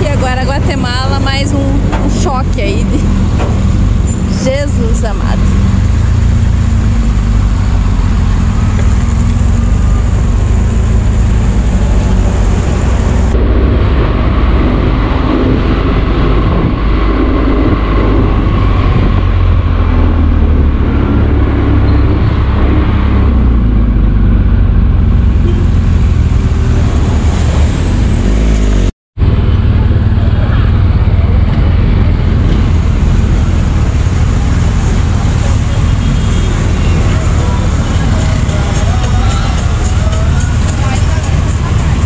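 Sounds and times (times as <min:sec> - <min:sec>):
motorcycle engine rumbling: 0:00.0 - 0:42.0
wind and road noise: 0:00.0 - 0:42.0.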